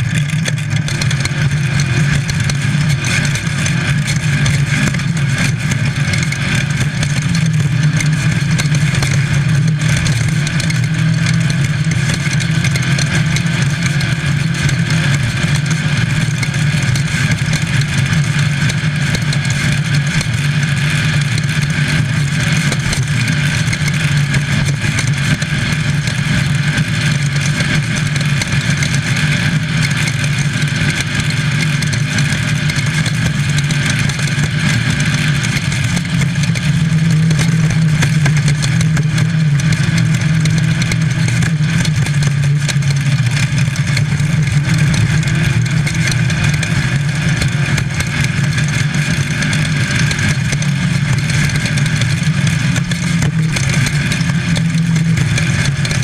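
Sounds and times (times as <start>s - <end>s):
constant rattling: 0.0s - 56.0s
race car engine under load: 0.0s - 56.0s.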